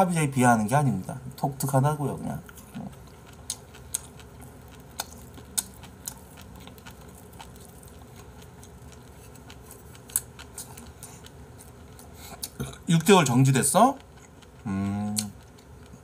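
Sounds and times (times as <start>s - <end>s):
person eating quietly: 1.1s - 16.0s.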